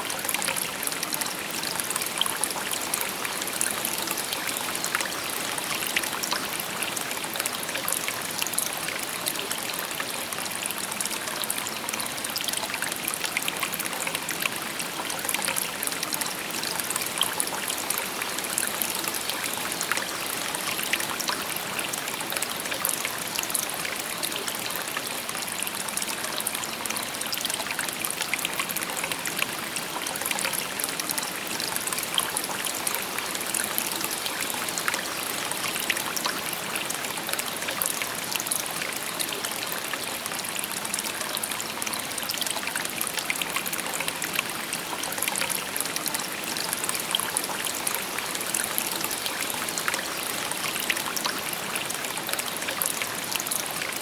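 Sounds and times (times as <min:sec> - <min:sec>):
brook babbling over stones: 0:00.0 - 0:54.0.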